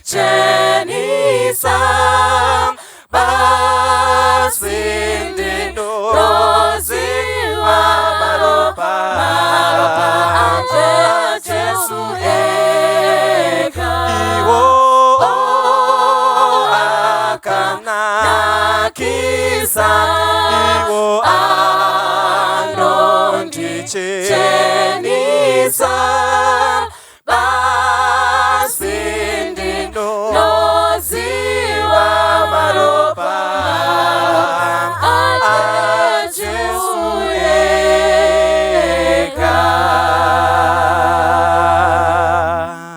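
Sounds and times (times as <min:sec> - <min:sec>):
choir singing a hymn a cappella: 0:00.0 - 0:42.9.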